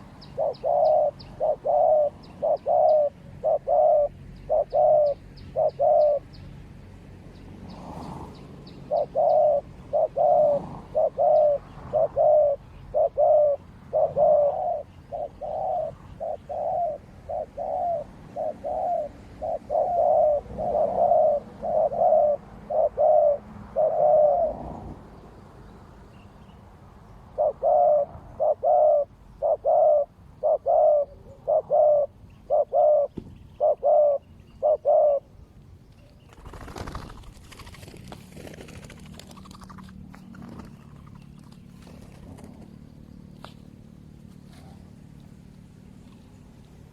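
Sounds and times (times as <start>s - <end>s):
doves cooing: 0.0s - 6.4s, 7.7s - 25.1s, 27.3s - 35.4s, 36.3s - 46.9s.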